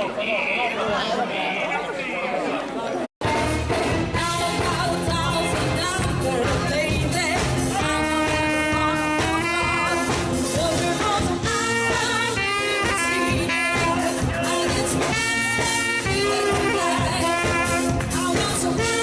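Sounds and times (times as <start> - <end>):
band music: 3.2 - 19.0
person singing: 3.2 - 19.0.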